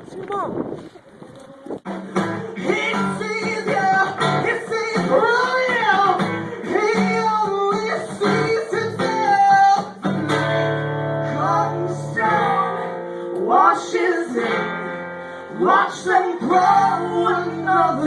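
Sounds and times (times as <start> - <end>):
person singing: 1.5 - 14.9, 15.5 - 18.0
strummed acoustic guitar: 1.8 - 18.0.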